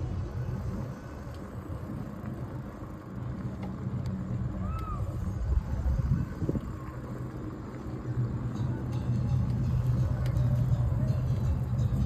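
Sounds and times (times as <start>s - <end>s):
outdoor street noise: 0.0s - 12.0s.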